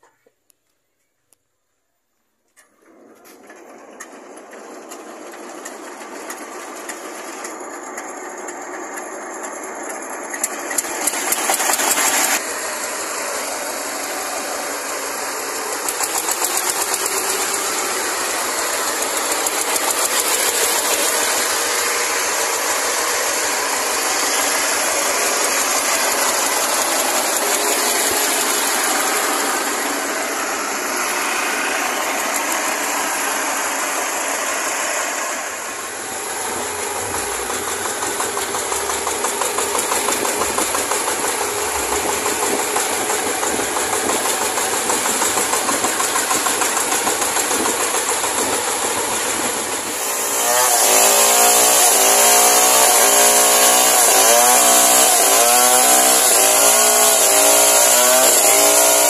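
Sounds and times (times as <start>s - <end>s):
diesel engine clattering: 2.6s - 59.0s.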